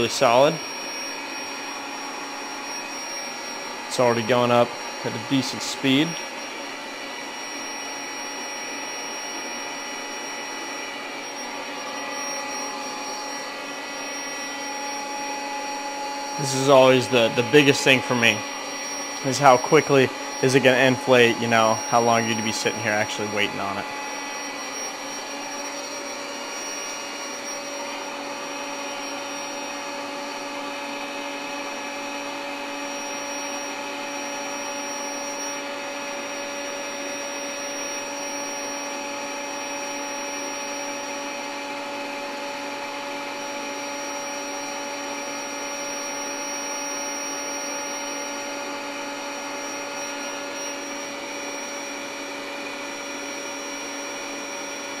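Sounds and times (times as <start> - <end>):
air pump motor humming: 0.0 - 55.0.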